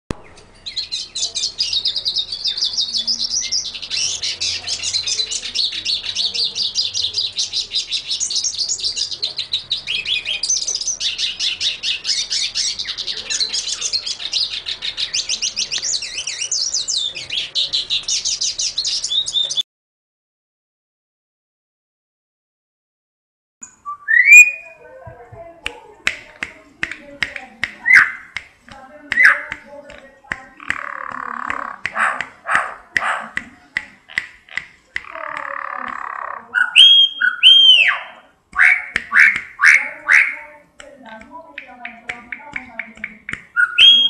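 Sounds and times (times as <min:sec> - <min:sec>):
songbirds twittering: 0:00.1 - 0:19.6, 0:23.6 - 0:44.0.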